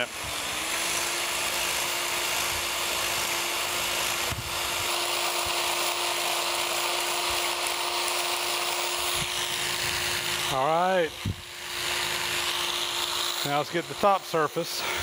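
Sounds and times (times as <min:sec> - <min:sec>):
power scraper scraping metal: 0:00.0 - 0:15.0.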